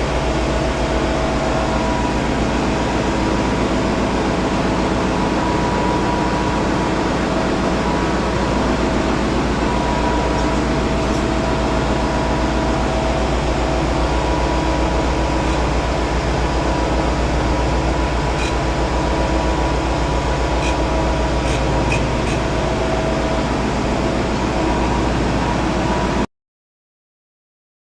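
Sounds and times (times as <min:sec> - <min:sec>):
marine diesel engine running: 0:00.0 - 0:26.2.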